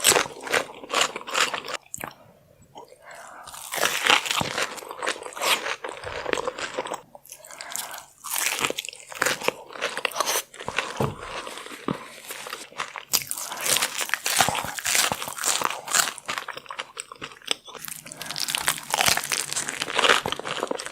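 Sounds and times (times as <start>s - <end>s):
crunching and wet chewing: 0.0s - 2.2s, 2.8s - 20.9s.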